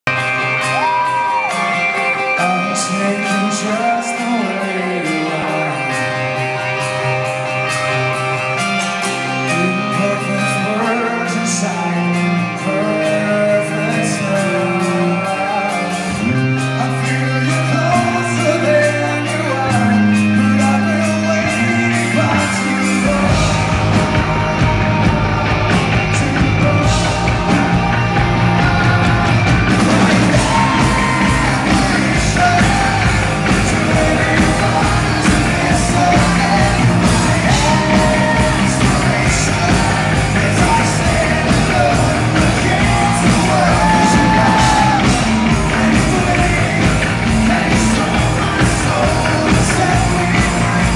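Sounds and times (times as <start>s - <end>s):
drums: 0.0s - 50.9s
live rock band: 0.0s - 50.9s
man singing: 0.1s - 7.1s, 8.9s - 50.9s.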